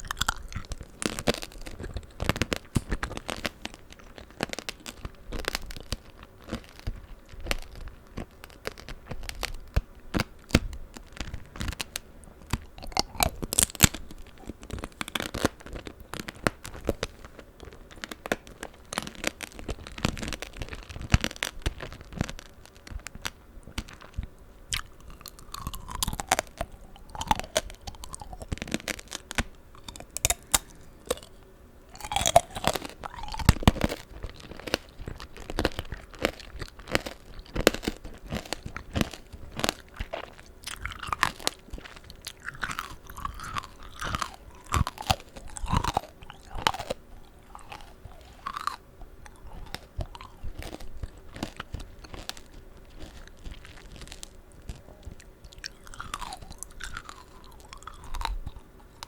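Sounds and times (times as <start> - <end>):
wet chewing of fruit: 0.0 - 9.6, 12.4 - 23.1, 23.7 - 59.0
hard candy crunching: 0.0 - 59.0.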